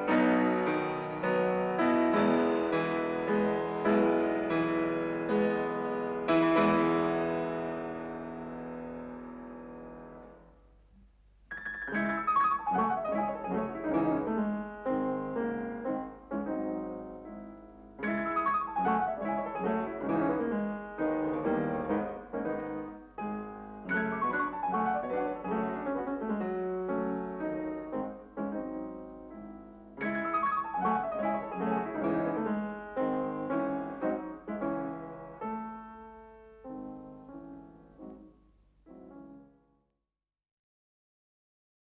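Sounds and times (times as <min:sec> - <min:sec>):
solo piano: 0:00.0 - 0:39.7.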